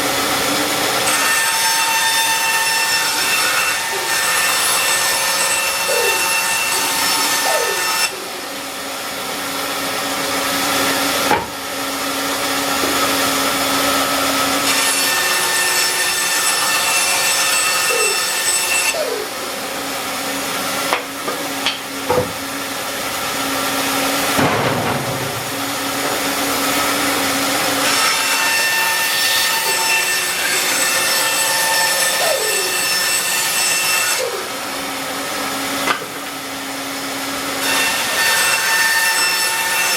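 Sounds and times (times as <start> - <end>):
band saw cutting: 0.0 - 39.9.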